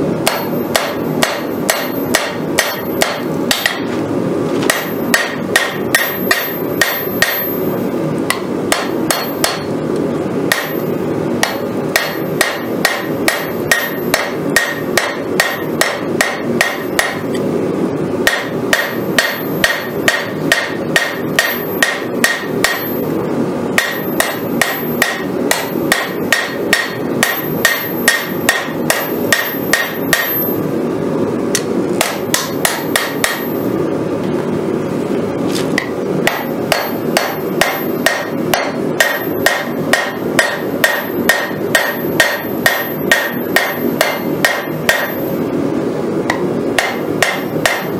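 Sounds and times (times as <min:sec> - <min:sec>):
hammer striking blade on anvil: 0:00.2 - 0:04.0, 0:04.7 - 0:07.7, 0:08.3 - 0:09.7, 0:10.5 - 0:17.4, 0:18.2 - 0:23.1, 0:23.8 - 0:30.6, 0:31.5 - 0:33.7, 0:35.8 - 0:45.4, 0:46.3 - 0:47.9.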